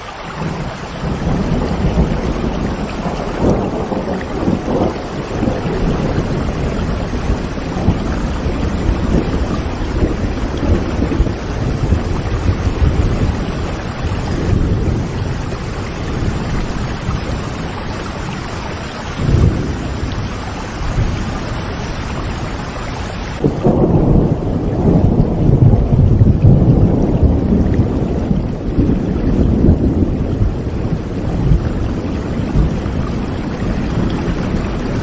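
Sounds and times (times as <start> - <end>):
steady rain: 0.0 - 35.0
thunder rumbling: 0.0 - 35.0.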